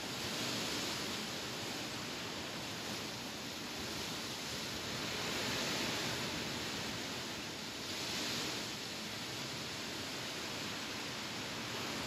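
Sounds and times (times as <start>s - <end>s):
wind rustling tall grass: 0.0s - 12.0s.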